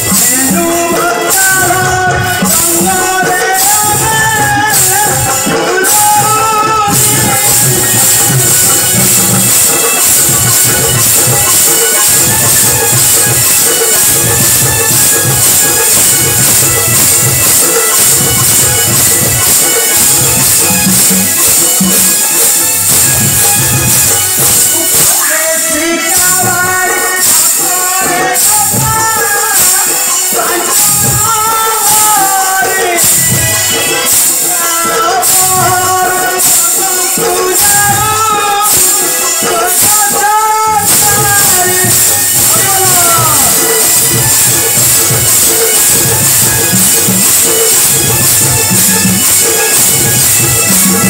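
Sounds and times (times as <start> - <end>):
jingling percussion: 0.0 - 51.0
live folk music: 0.0 - 51.0
person singing: 0.0 - 51.0.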